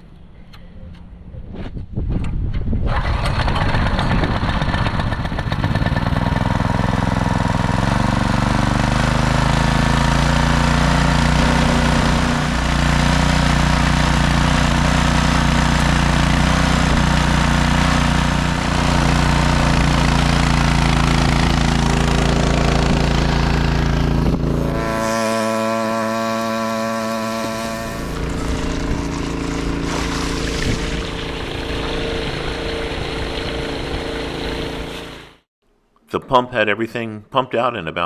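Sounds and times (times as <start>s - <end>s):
pump engine running: 2.9s - 35.4s.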